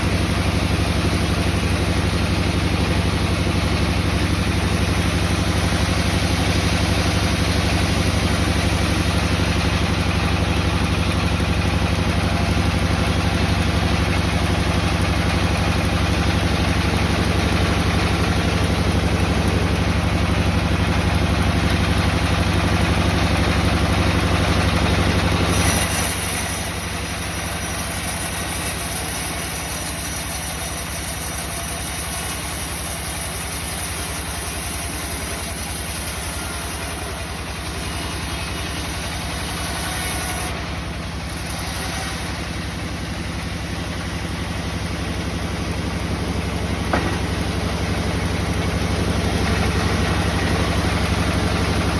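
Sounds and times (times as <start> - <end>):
woodworking machinery humming: 0.0 - 51.9.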